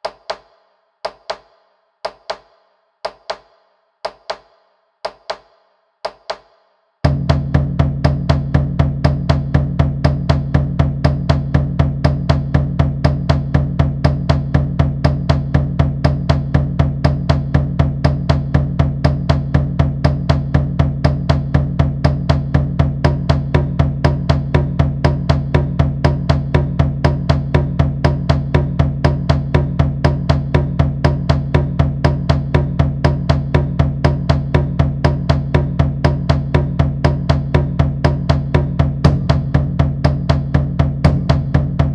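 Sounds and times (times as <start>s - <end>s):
drum struck in steady beat: 0.0s - 41.9s.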